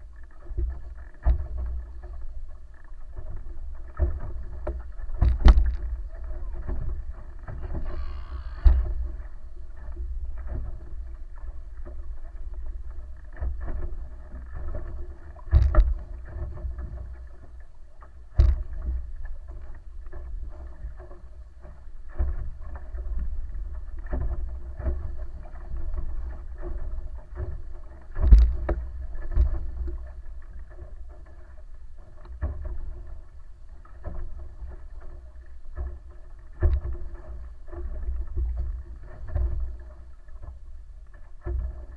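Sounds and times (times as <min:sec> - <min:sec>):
faint steady hum: 0:00.0 - 0:41.9
muffled wind and water rumble: 0:00.0 - 0:41.9.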